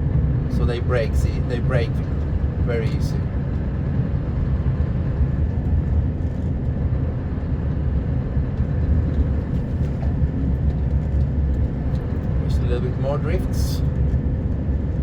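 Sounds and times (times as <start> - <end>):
diesel truck engine rumble: 0.0 - 15.0
road noise: 0.0 - 15.0.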